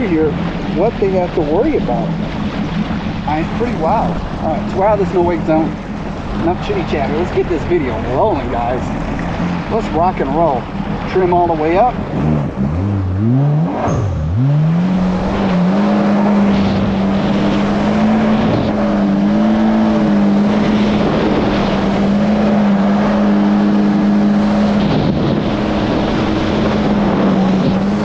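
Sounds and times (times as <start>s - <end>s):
jet ski engine revving: 0.0s - 28.0s
rushing noise: 0.0s - 28.0s.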